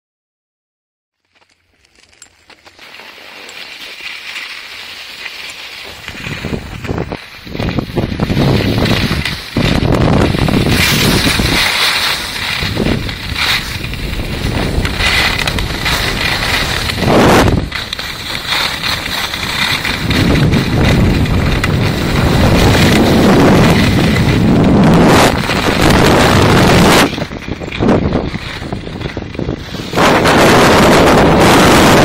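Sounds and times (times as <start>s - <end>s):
skis scraping on hard snow: 1.2s - 32.0s
wind buffeting microphone: 6.0s - 32.0s.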